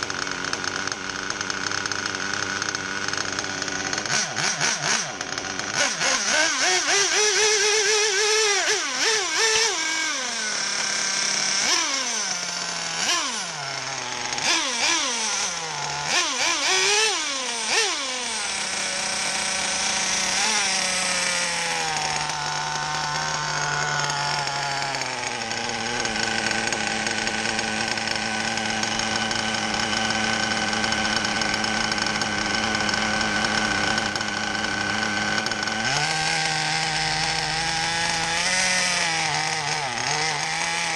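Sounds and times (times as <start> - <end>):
model engine revving and idling: 0.0 - 40.9.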